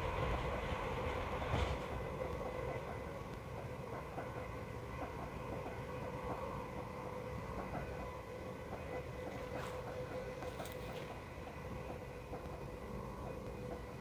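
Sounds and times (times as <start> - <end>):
steady hum: 0.0 - 14.0
train wheels rumbling on track: 0.0 - 14.0.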